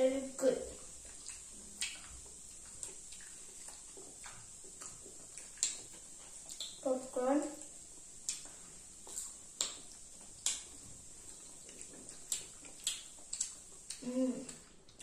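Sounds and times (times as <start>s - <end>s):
children chewing: 0.0s - 15.0s.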